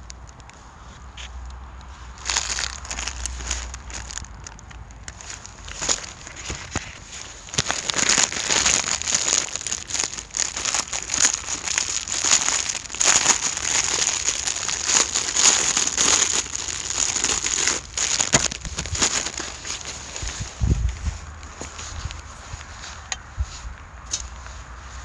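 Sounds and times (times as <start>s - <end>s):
pine cones crackling in a fire: 0.0s - 25.0s.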